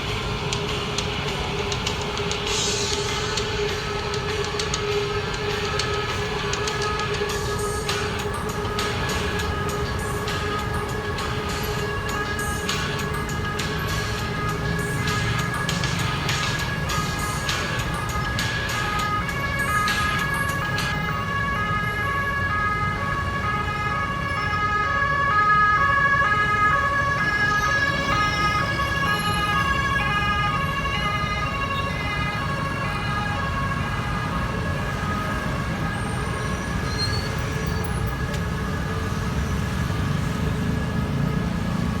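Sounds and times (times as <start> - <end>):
road traffic noise: 0.0 - 42.0
two-note siren wail: 2.9 - 41.6.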